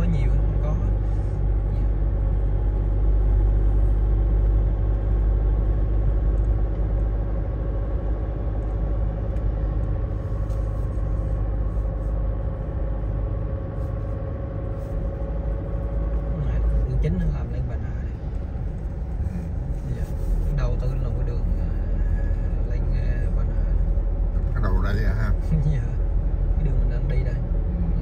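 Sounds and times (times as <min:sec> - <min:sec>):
faint steady whine: 0:00.0 - 0:28.0
vehicle engine and tyre rumble: 0:00.0 - 0:28.0.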